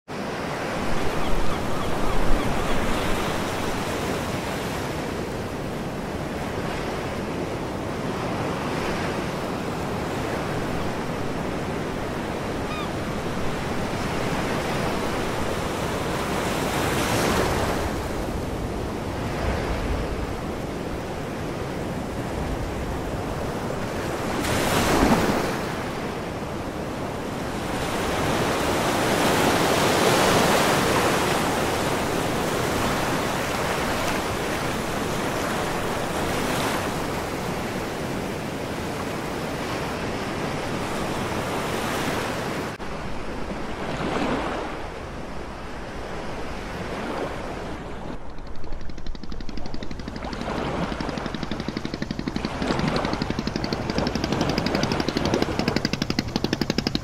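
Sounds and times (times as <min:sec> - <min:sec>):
ocean waves breaking: 0:00.1 - 0:57.0.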